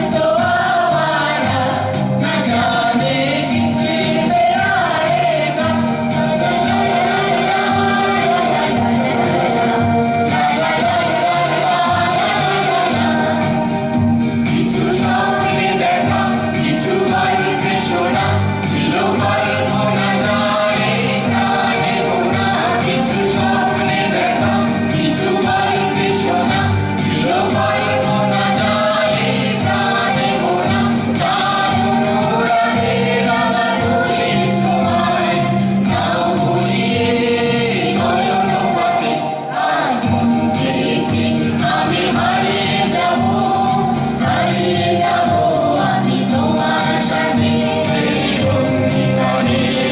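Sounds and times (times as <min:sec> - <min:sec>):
instrumental accompaniment: 0:00.0 - 0:49.9.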